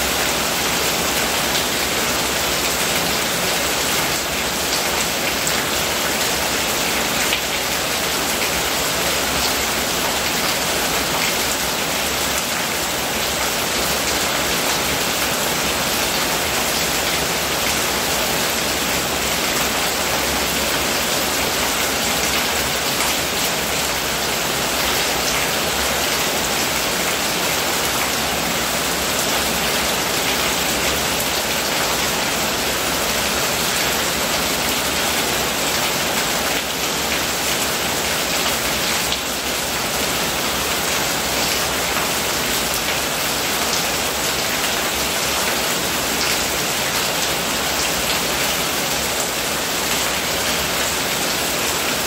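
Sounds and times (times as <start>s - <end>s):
runoff water pouring off roof: 0.0s - 52.0s.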